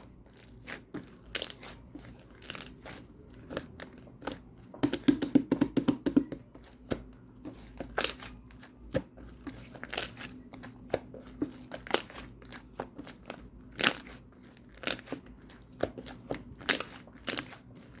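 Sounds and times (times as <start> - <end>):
crinkling handling noises: 0.0 - 4.9, 6.4 - 18.0.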